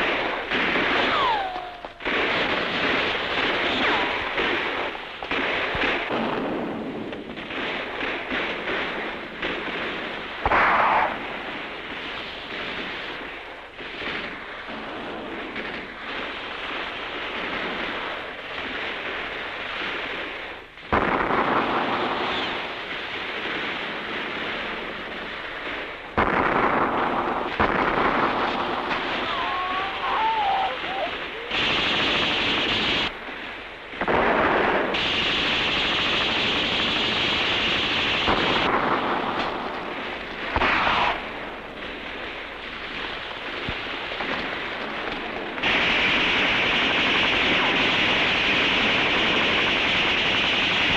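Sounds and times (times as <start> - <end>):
gunfire and explosions: 0.0 - 50.9
loud blasts: 0.0 - 50.9.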